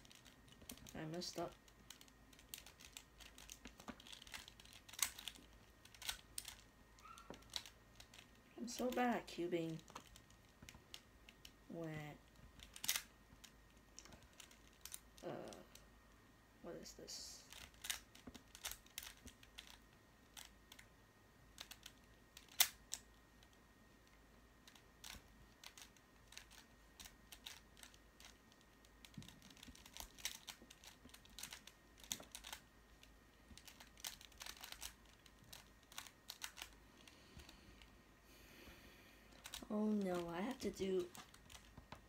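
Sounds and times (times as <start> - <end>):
plastic cube clicks and clacks: 0.0 - 11.6, 12.2 - 15.9, 17.5 - 20.9, 21.5 - 37.9, 39.3 - 42.0.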